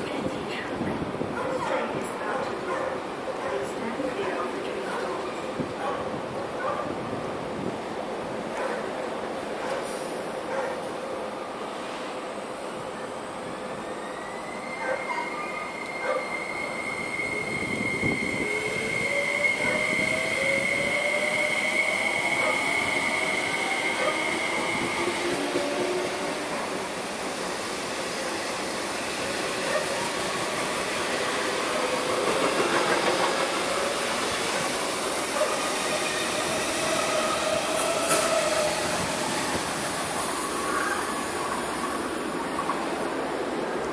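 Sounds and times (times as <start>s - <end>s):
second train arriving: 0.0s - 43.9s.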